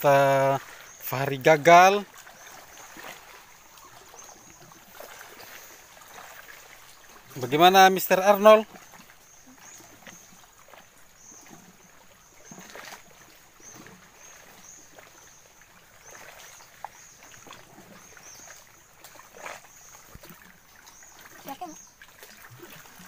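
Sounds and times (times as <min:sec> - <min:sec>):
water sloshing around wading person: 0:00.0 - 0:23.0.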